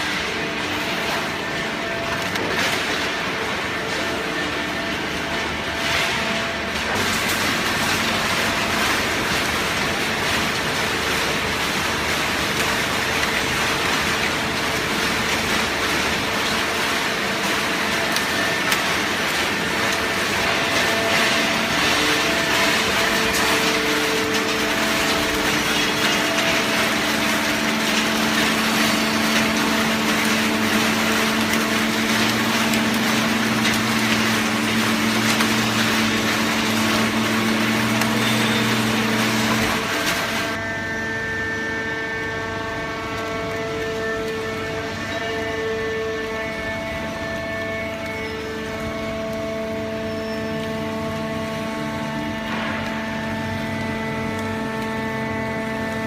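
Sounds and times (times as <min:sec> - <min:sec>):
baler machine humming: 0:00.0 - 0:56.0.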